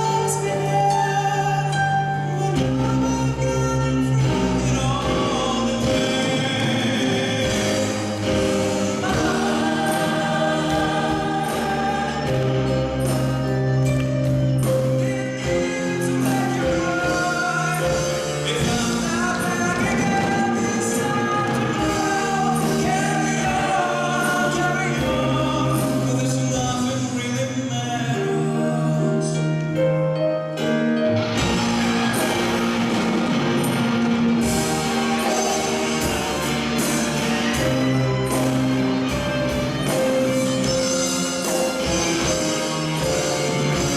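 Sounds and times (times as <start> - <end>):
vocal ensemble singing in harmony: 0.0 - 29.7, 31.2 - 43.9
instrumental backing: 0.0 - 43.9
live band music: 0.0 - 43.9.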